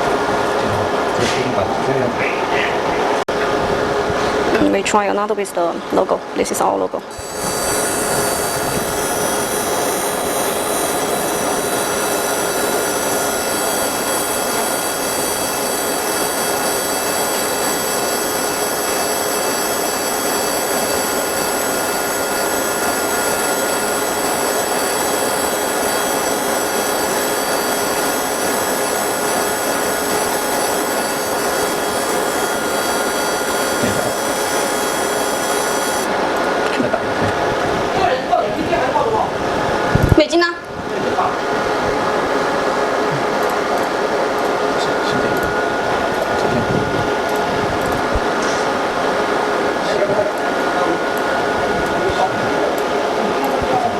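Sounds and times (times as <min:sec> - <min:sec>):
laser machine humming and whining: 0:05.9 - 0:53.9.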